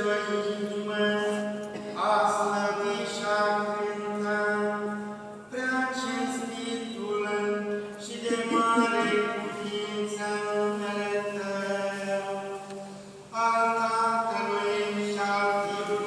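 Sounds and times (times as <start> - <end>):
liturgical chant: 0.0 - 16.0.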